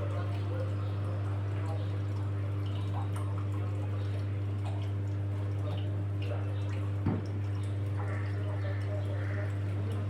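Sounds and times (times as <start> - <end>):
water splashing in washing machine: 1.2 - 10.0.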